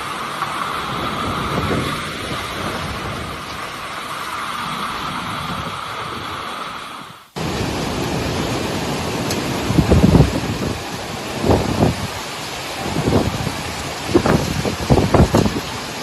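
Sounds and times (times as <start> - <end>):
wind and rain rushing: 0.0 - 16.0
wind buffeting microphone: 0.0 - 16.0.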